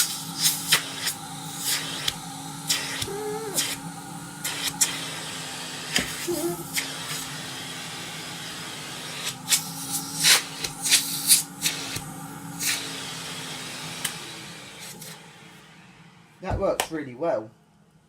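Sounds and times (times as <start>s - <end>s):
hissing bursts of sucked air: 0.0s - 15.4s
vacuum cleaner humming: 0.0s - 17.1s.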